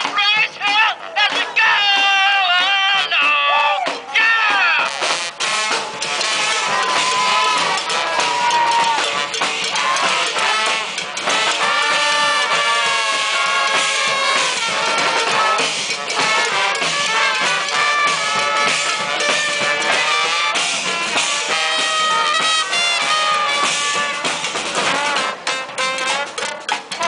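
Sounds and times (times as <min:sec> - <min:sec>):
brass band playing: 0:00.0 - 0:27.0.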